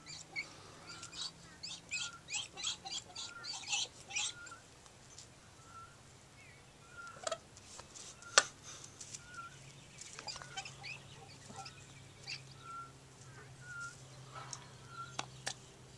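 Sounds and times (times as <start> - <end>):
peafowl peeping: 0.0 - 15.9.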